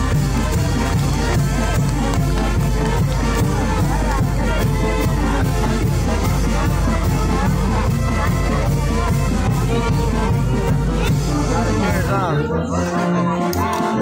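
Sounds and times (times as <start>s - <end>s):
brass band playing lively tune: 0.0s - 14.0s.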